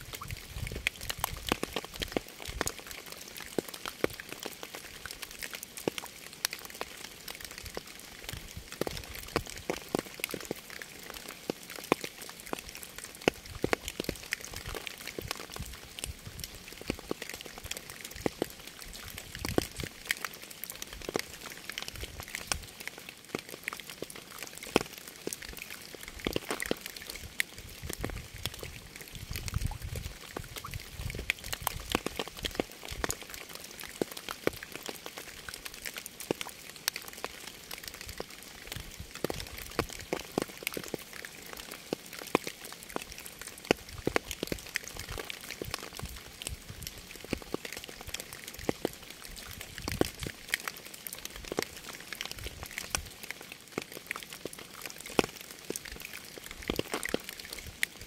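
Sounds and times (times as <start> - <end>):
close raindrops striking: 0.0 - 58.0
rain falling: 0.0 - 58.0.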